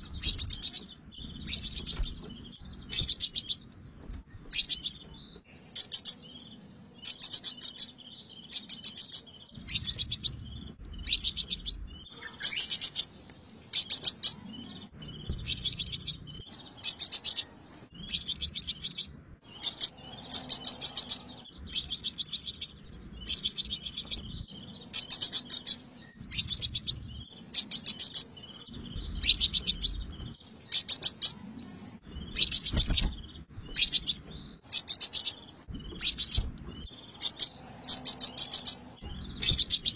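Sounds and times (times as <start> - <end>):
bird chipping calls: 0.0 - 39.9.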